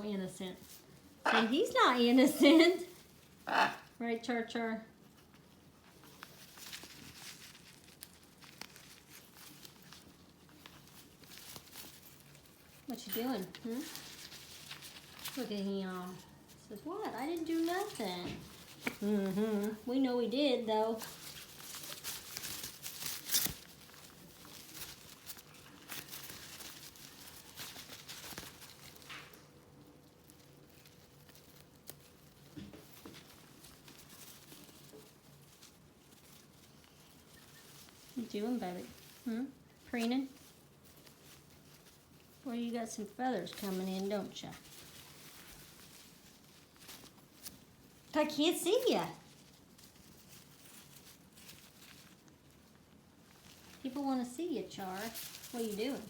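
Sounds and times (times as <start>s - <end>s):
faint rustling: 0.0s - 56.0s.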